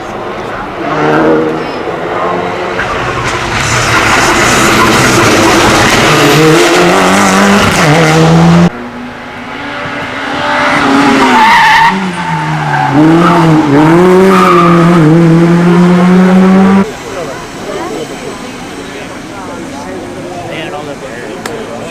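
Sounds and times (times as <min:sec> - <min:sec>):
race car engines at full throttle: 0:00.0 - 0:21.9.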